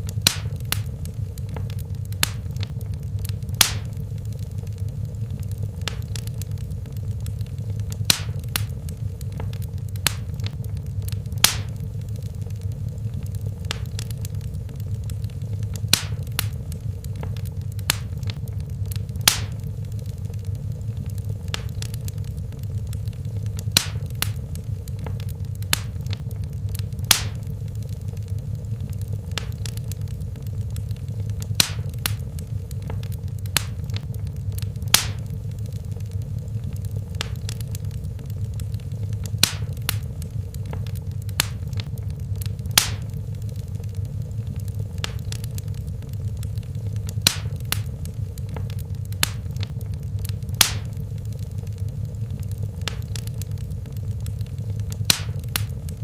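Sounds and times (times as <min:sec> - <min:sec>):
low rumble of flames: 0:00.0 - 0:56.0
wood fire crackling and popping: 0:00.0 - 0:56.0.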